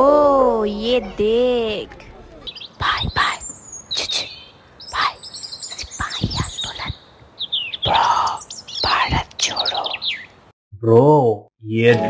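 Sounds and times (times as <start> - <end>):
small birds chirping: 0.0 - 10.5.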